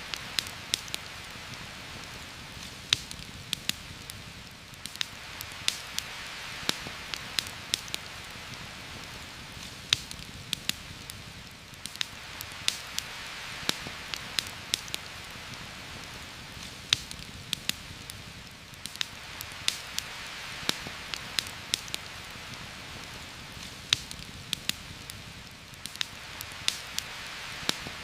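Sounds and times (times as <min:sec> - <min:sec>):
campfire crackling and popping: 0:00.0 - 0:28.0
heavy rain hissing: 0:00.0 - 0:28.0.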